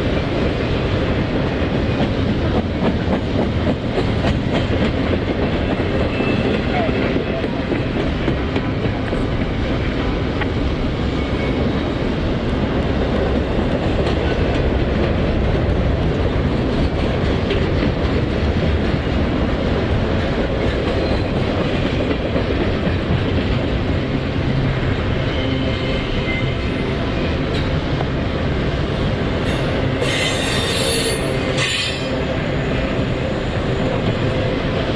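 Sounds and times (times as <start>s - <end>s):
freight train rumbling past: 0.0s - 34.9s.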